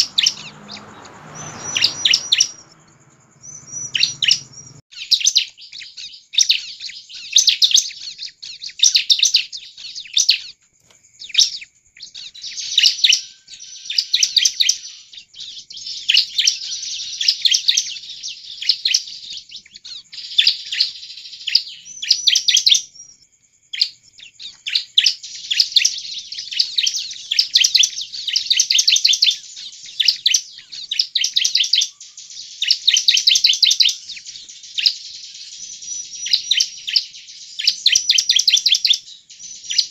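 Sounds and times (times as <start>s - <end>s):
bird singing rapid sharp notes: 0.0s - 23.2s, 23.8s - 39.9s.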